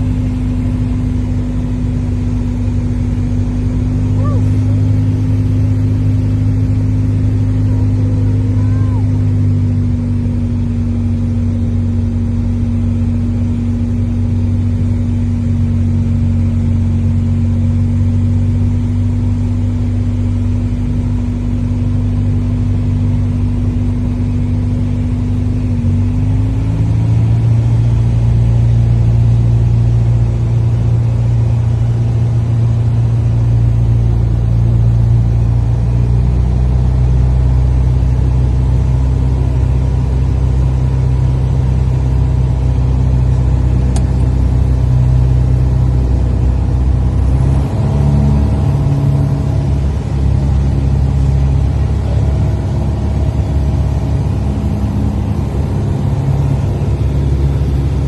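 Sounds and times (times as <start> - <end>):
airliner engines droning in cabin: 0.0 - 58.0.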